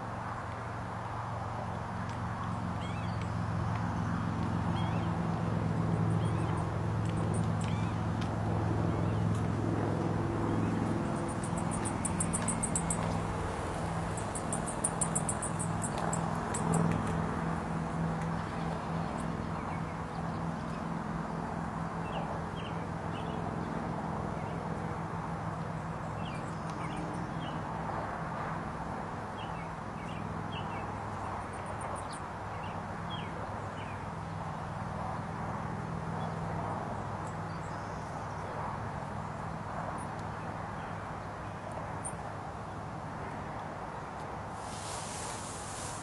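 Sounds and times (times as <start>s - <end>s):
low hum and rushing noise: 0.0s - 46.0s.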